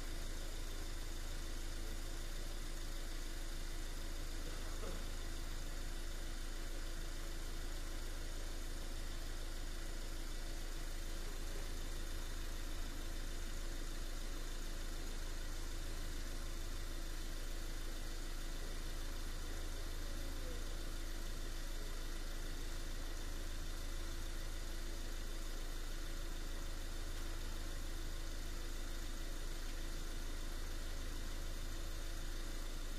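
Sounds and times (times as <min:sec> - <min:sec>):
engine idling: 0:00.0 - 0:32.9.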